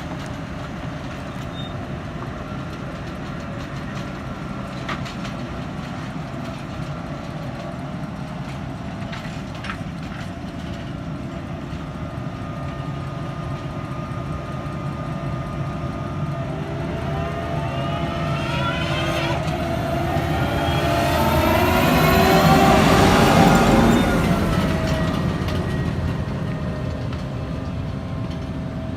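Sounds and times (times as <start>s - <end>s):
heavy vehicle engine running: 0.0s - 28.9s.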